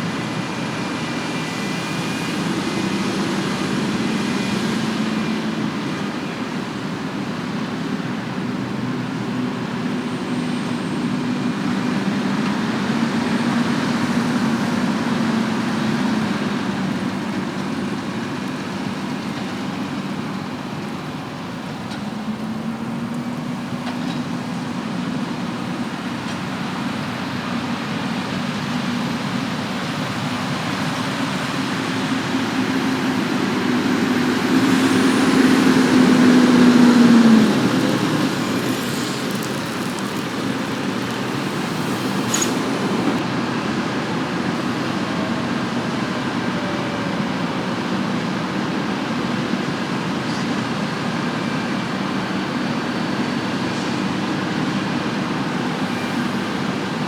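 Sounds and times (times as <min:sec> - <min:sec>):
farm machine diesel engine droning: 0:00.0 - 0:57.0.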